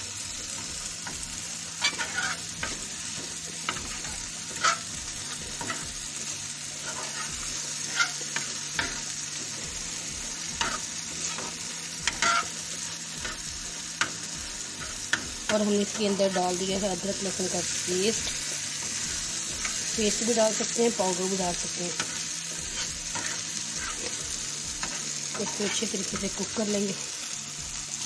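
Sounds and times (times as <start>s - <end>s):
chicken sizzling in oil: 0.0s - 28.0s
spatula scraping the pan: 0.5s - 20.8s, 21.4s - 26.4s.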